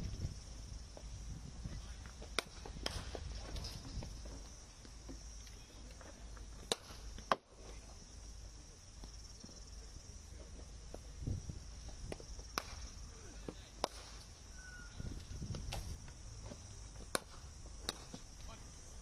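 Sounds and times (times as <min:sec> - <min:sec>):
steady high-pitched hiss: 0:00.0 - 0:19.0.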